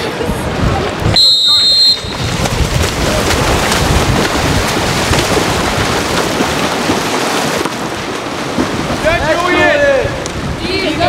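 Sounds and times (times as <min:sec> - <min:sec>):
water splashing in pool: 0:00.4 - 0:10.6.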